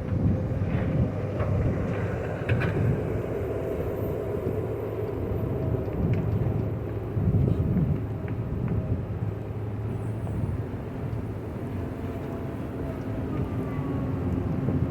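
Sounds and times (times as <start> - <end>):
diesel engine under load: 0.0 - 14.9.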